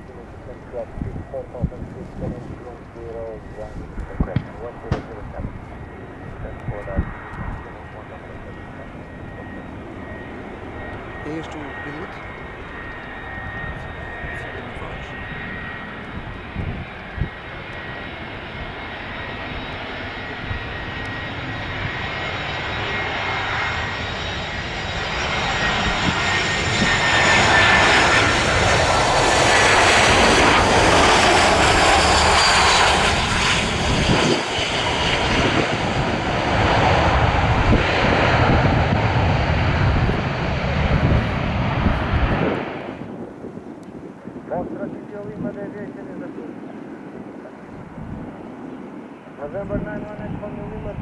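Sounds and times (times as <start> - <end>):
aircraft engine rumble: 0.0 - 51.0
jet engines whining: 0.0 - 51.0.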